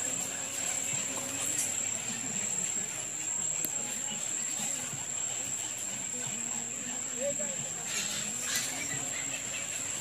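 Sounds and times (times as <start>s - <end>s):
crickets droning: 0.0s - 10.0s
faint voices murmuring: 0.0s - 10.0s.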